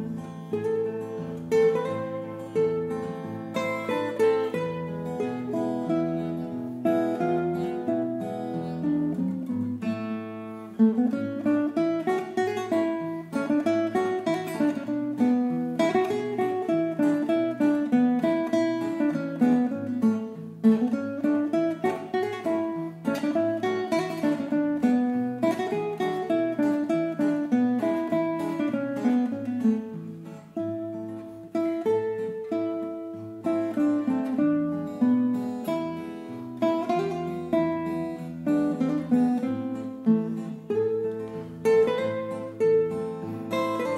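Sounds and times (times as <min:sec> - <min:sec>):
two guitars playing: 0:00.0 - 0:43.9.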